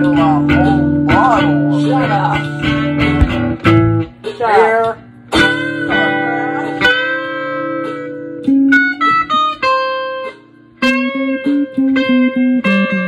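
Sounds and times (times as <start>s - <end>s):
guitar playing: 0.0s - 13.0s.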